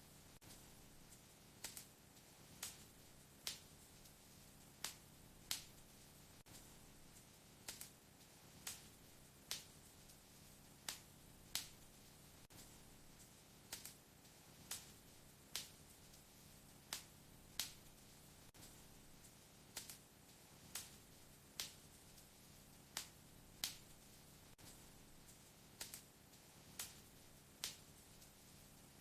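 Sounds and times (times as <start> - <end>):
faint steady hiss: 0.0 - 29.0
wood fire crackling: 0.0 - 29.0.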